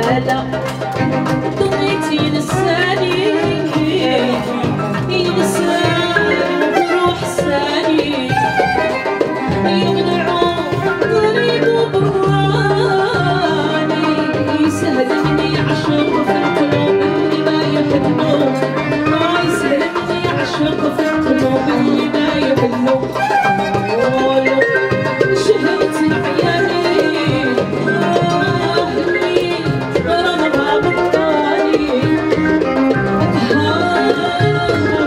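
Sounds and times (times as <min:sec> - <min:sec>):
double bass playing: 0:00.0 - 0:35.0
woman singing into a microphone: 0:00.0 - 0:35.0
violin playing: 0:00.6 - 0:11.7, 0:13.6 - 0:35.0.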